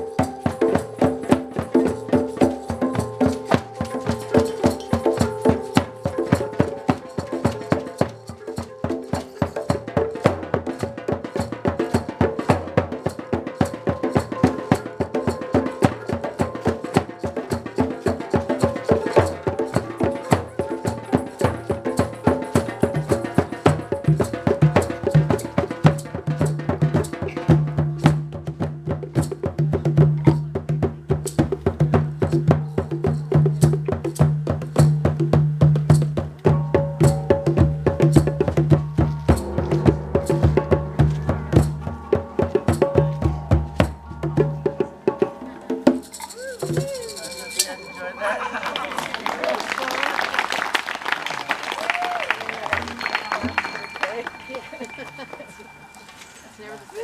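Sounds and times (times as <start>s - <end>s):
live percussion music: 0.0s - 57.0s.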